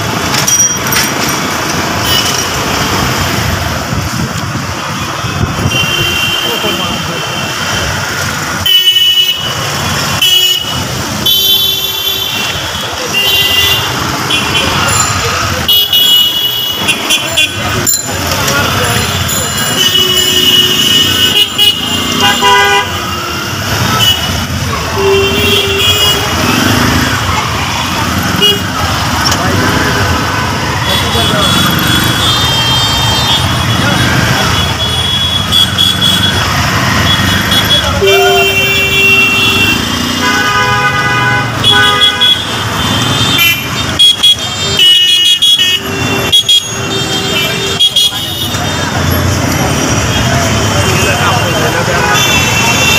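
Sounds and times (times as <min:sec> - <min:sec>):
traffic engine noise: 0:00.0 - 0:52.9
vehicle horns honking: 0:05.2 - 0:18.0, 0:18.6 - 0:27.2, 0:28.1 - 0:52.9.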